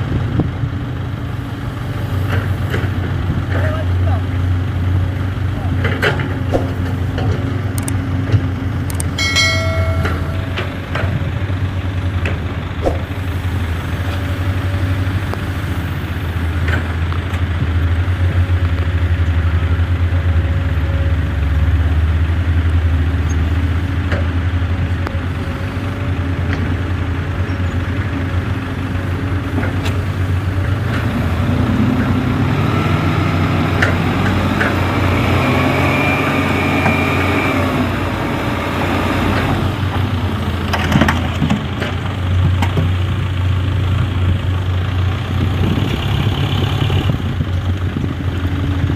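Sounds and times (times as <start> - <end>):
diesel truck engine revving: 0.0 - 48.9.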